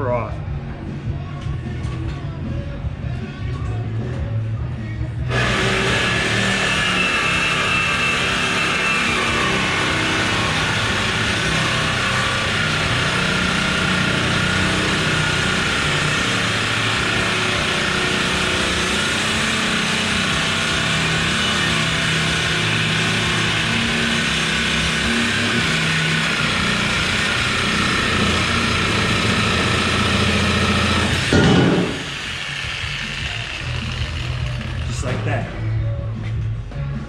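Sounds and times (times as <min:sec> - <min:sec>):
power tool cutting steel tubing: 0:05.3 - 0:35.3.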